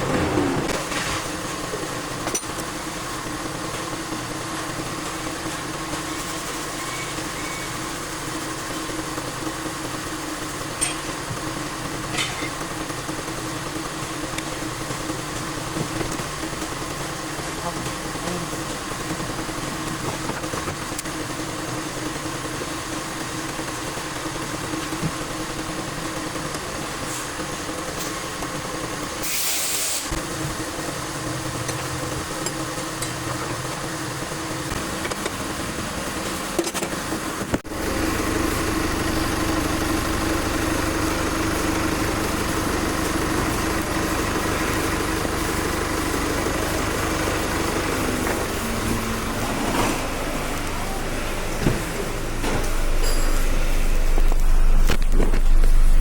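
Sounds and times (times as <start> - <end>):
vehicle engine idling: 0.0 - 29.2, 30.1 - 56.0.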